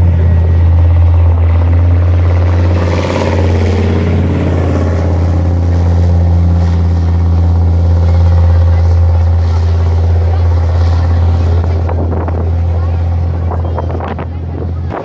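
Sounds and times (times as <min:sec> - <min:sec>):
tracked vehicle diesel engine: 0:00.0 - 0:15.0.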